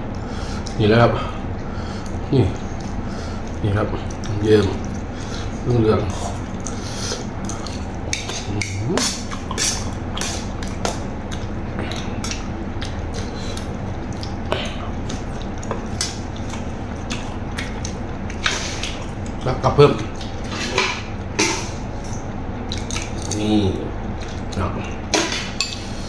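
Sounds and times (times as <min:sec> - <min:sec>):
steady low hum: 0:00.0 - 0:26.0
chewing: 0:01.5 - 0:20.5, 0:21.9 - 0:23.5, 0:24.1 - 0:24.7.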